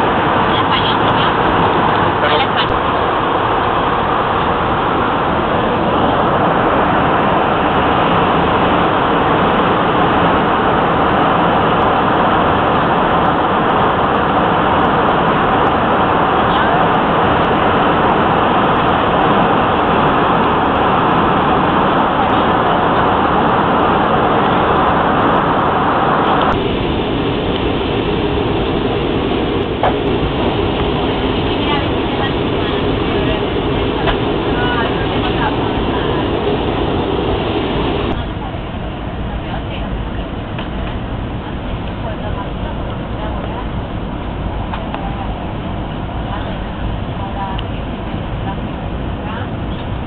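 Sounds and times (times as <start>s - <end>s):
jet airliner cabin noise: 0.0s - 50.0s.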